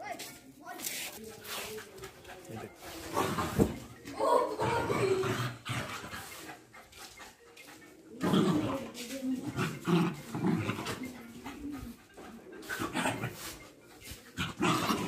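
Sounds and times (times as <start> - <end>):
dogs growling and snarling: 1.9 - 13.6, 14.3 - 15.0.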